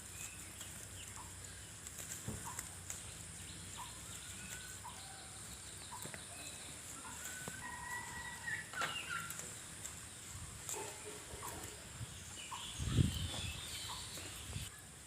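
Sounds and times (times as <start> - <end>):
birds chirping and whistling: 0.0 - 14.8
steady high-pitched hiss: 0.0 - 15.0.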